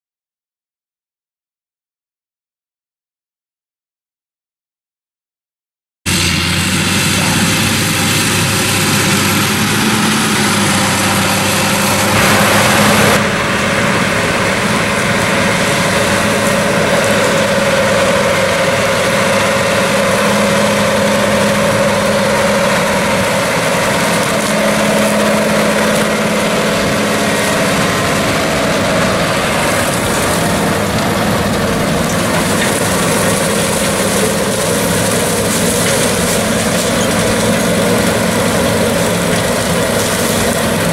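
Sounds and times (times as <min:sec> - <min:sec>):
diesel tractor engine under load: 0:06.1 - 0:40.9
rush of noise: 0:06.1 - 0:40.9.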